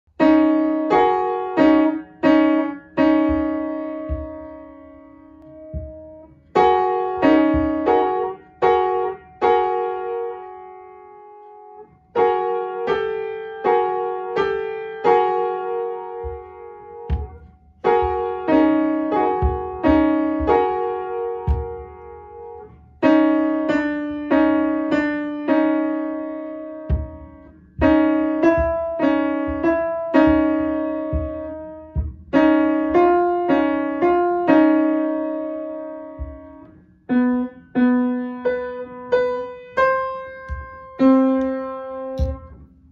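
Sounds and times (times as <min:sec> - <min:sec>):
piano melody of single notes: 0:00.1 - 0:42.9.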